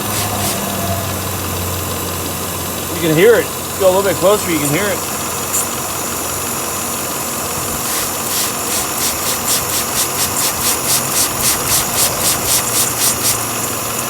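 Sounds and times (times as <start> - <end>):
air hissing into vacuum leak: 0.0 - 14.0
car engine idling: 0.0 - 14.0
rhythmic hissing pulse: 0.0 - 14.0.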